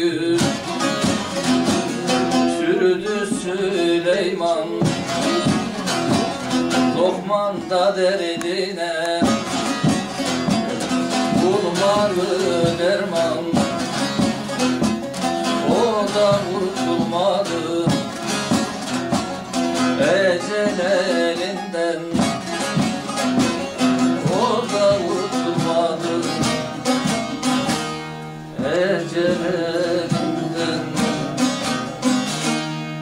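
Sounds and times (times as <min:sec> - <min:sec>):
plucked lutes playing folk melody: 0:00.0 - 0:33.0.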